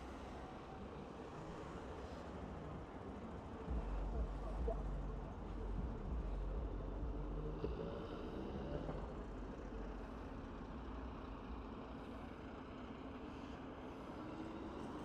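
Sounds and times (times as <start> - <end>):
bus passing: 0.0 - 15.0
low traffic rumble: 0.0 - 15.0.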